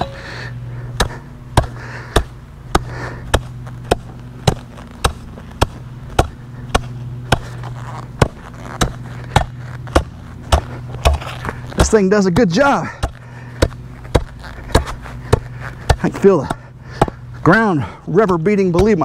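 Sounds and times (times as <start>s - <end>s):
steady low hum: 0.0s - 19.0s
hand tamper thudding on asphalt: 0.9s - 17.2s.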